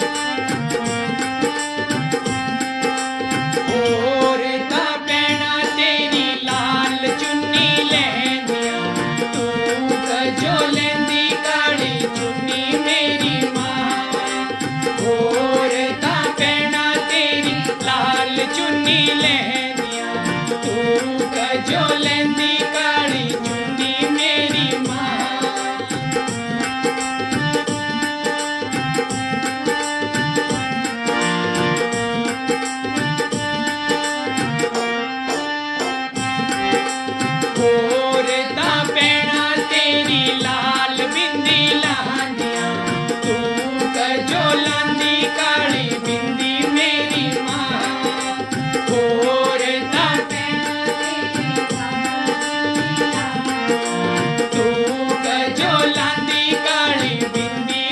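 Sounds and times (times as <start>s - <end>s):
hand drum rhythm: 0.0s - 57.9s
harmonium chords: 0.0s - 57.9s.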